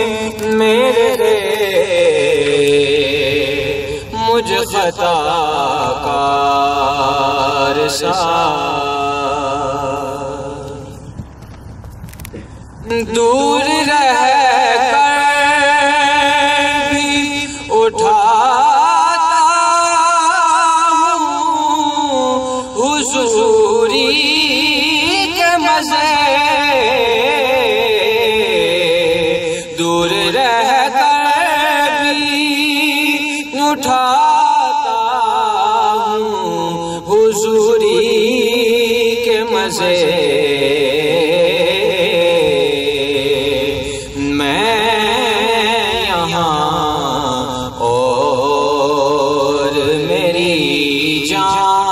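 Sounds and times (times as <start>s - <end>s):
man singing devotional song: 0.0s - 51.9s.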